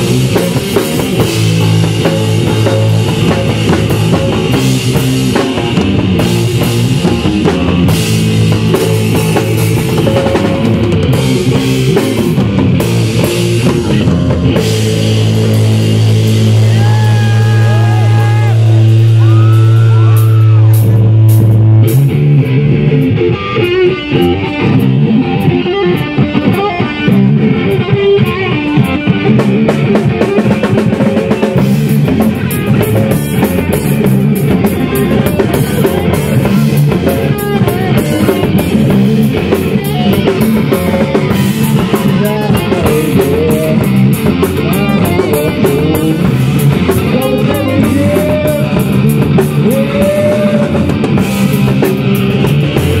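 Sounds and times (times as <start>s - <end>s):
drums: 0.0s - 53.0s
rock band playing loud: 0.0s - 53.0s.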